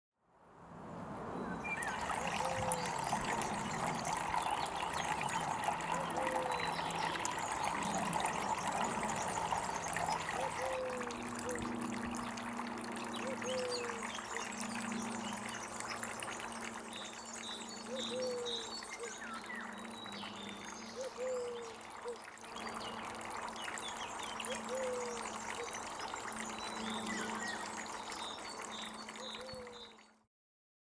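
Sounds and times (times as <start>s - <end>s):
fountain water trickling and splashing: 1.4s - 30.3s.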